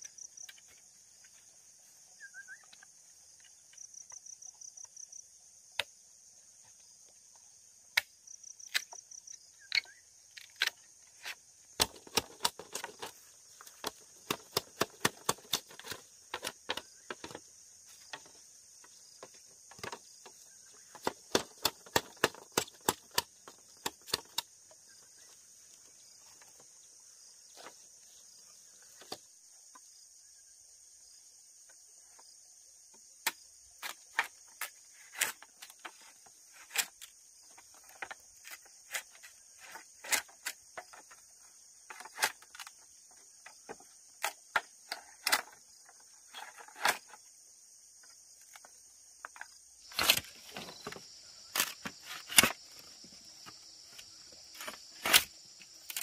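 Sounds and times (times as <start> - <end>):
insects chorus: 0.0 - 56.0
insects pulsed chirping: 0.0 - 56.0.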